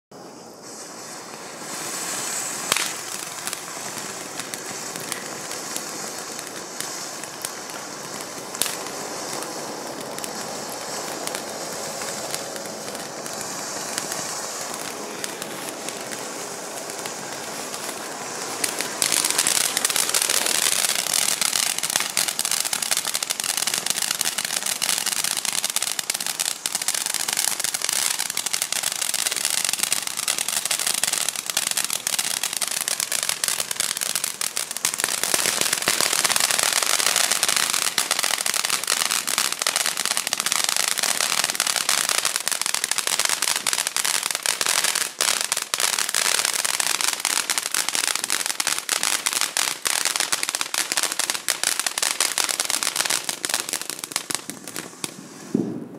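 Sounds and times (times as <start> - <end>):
firework fountain hissing: 0.0 - 55.9
crackling pops: 0.6 - 55.8.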